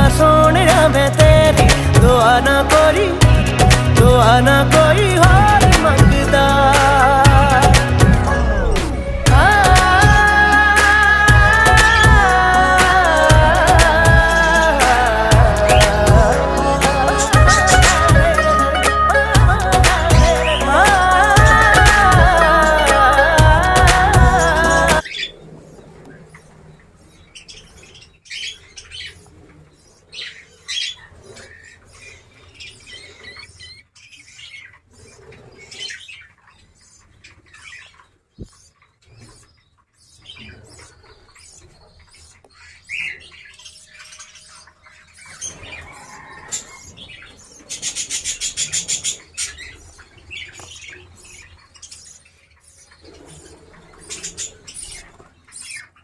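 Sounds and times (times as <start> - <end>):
parrots chirping and chattering: 5.2 - 25.4, 26.3 - 56.0.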